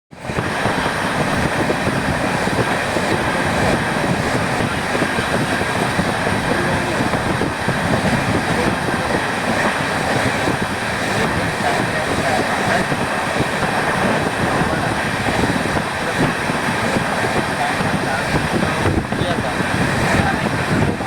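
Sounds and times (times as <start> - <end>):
train wheels rumbling on rails: 0.1 - 21.0.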